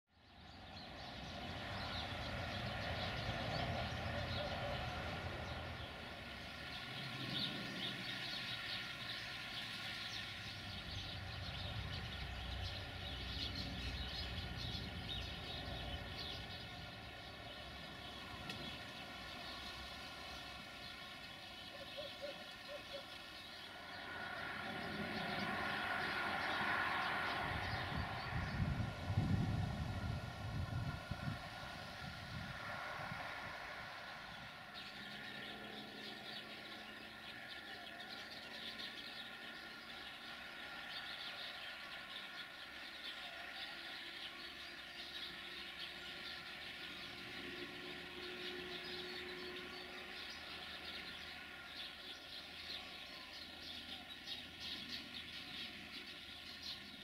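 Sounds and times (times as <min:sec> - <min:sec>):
distant train drone: 0:00.2 - 0:57.0.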